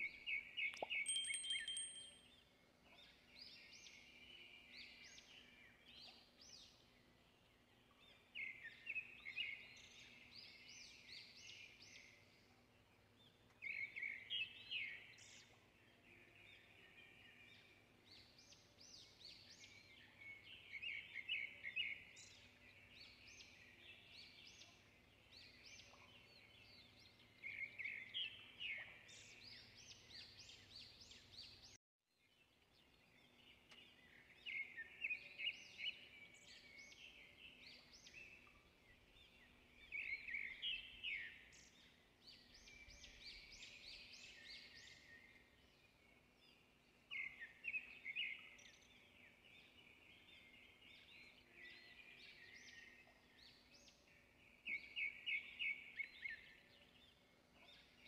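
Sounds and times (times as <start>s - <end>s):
birds chirping and trilling: 0.0s - 31.8s, 32.6s - 58.0s.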